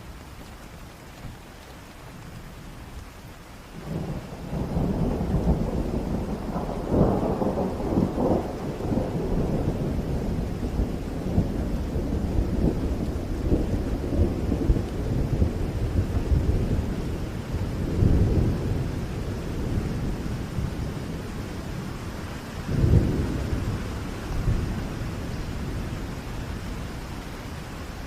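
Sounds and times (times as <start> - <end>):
heavy rain falling: 0.0 - 28.0
low rumble of thunder: 3.8 - 28.0.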